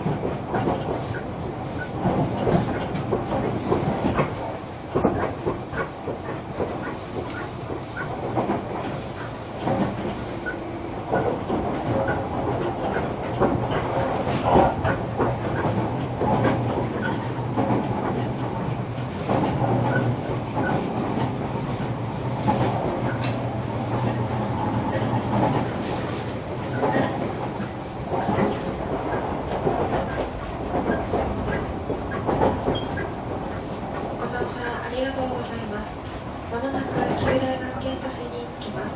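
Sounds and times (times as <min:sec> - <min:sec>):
rumble of wheels on rail: 0:00.0 - 0:38.9.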